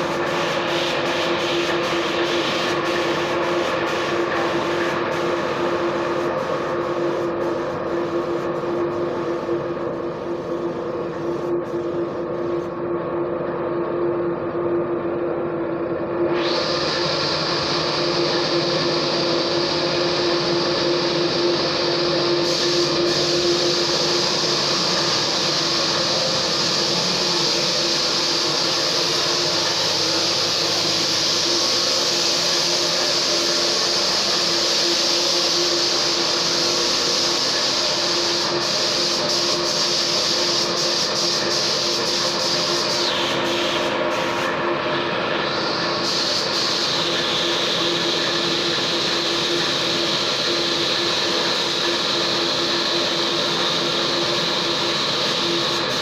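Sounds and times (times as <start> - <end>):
machine hissing and humming: 0.0 - 14.0, 15.3 - 56.0.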